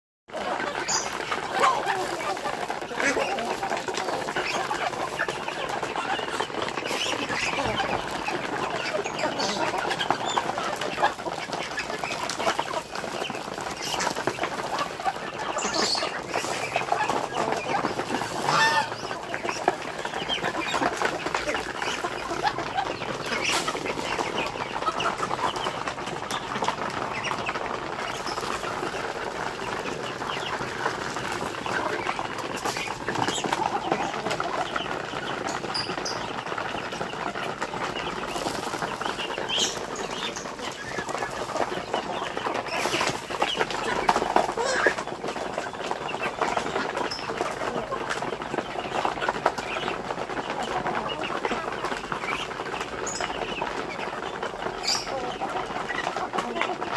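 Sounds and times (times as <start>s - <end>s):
chickens and ducks clucking: 0.3s - 56.9s
wings flapping: 0.3s - 56.9s.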